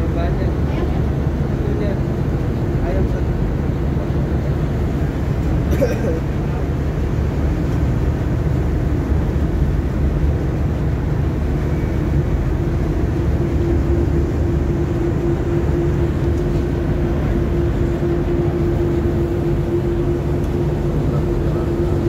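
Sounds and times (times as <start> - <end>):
ship engines rumbling: 0.0 - 22.0
steady hum: 0.0 - 22.0.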